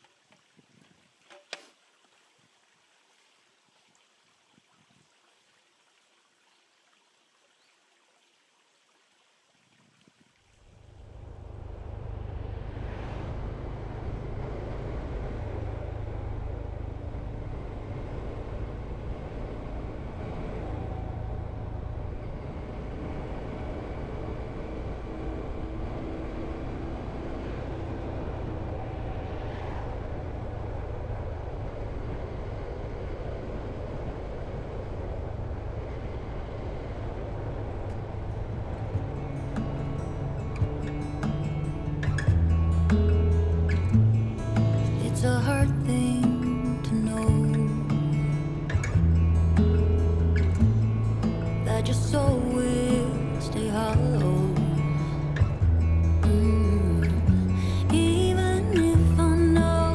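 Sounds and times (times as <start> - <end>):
wind rumble: 10.0 - 59.9
motorcycle engine: 11.0 - 59.9.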